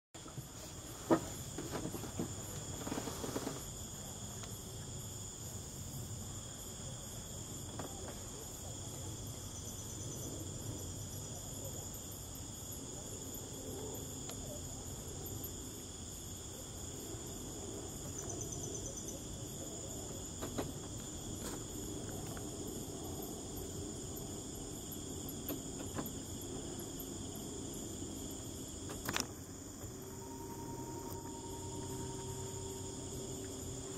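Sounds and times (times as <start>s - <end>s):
low background hum: 0.2s - 33.9s
night insects chirring: 0.2s - 33.9s.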